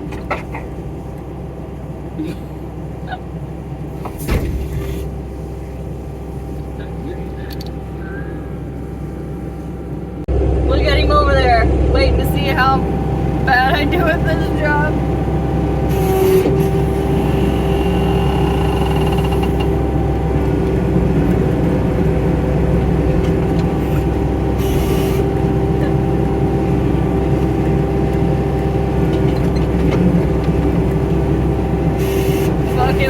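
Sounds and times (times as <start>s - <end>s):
skid steer engine whining: 0.0s - 33.0s.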